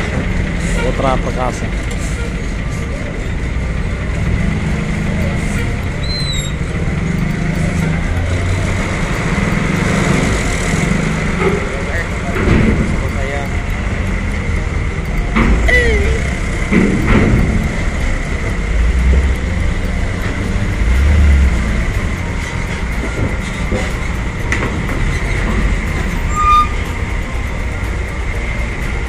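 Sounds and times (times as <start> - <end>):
diesel engines rumbling: 0.0 - 29.0.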